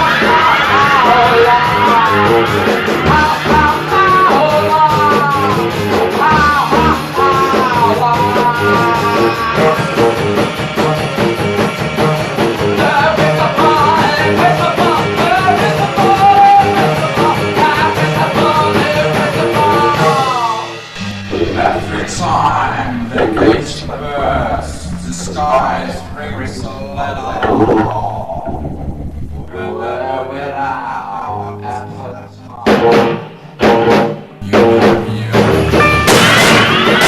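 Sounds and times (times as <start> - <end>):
guitar: 0.0 - 37.0.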